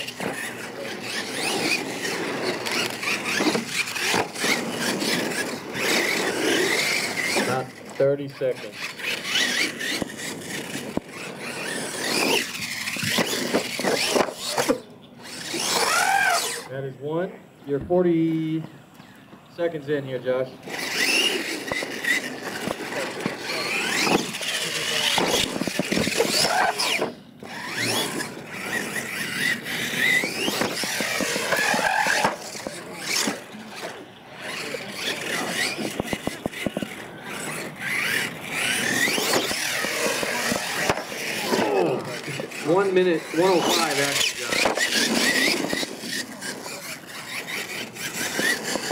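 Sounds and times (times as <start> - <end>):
toy truck motor whining: 0.0 - 16.7, 20.6 - 48.9.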